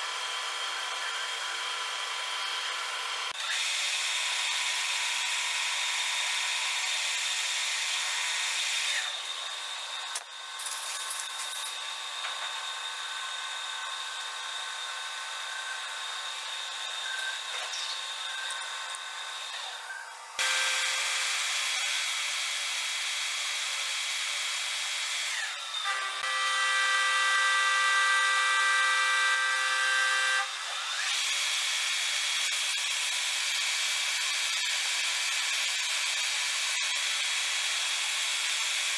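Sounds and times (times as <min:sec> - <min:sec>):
lathe cutting tool turning: 0:00.0 - 0:34.6.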